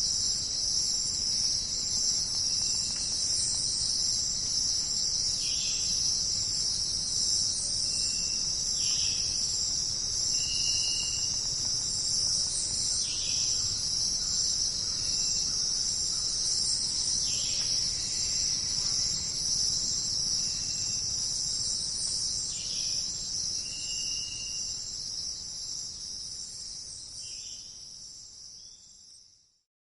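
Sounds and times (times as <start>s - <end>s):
chorus of crickets: 0.0s - 29.6s.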